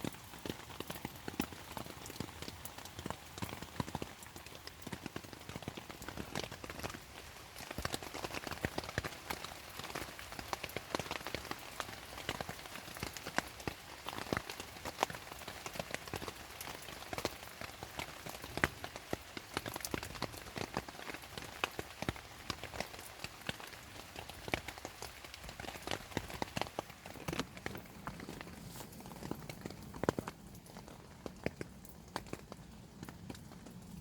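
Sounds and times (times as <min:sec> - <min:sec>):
hiss of rainfall: 0:00.0 - 0:34.0
raindrops tapping on surface: 0:00.0 - 0:34.0.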